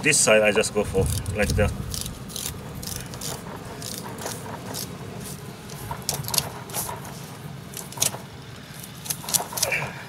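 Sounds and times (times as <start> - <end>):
low steady rumble: 0.3 - 8.6
knife scraping along fish bones: 1.0 - 9.7.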